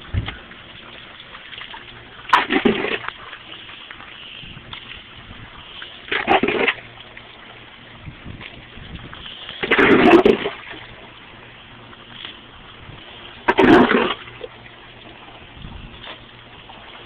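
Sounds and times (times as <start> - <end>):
big water splashes: 0.0 - 17.0.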